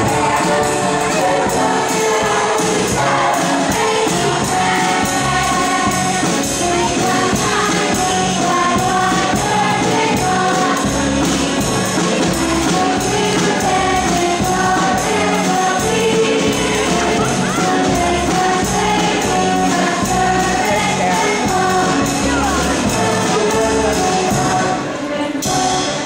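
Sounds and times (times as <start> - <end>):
chorus of young voices singing: 0.0 - 26.0
musical accompaniment with steady beat: 0.0 - 26.0.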